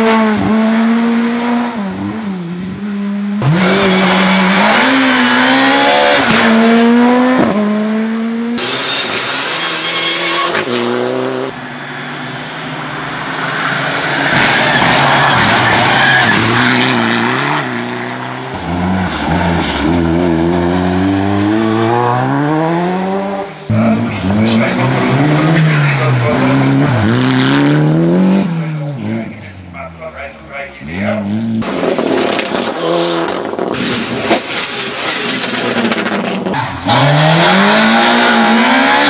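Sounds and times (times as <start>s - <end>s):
rally car engines at full throttle: 0.0s - 39.0s.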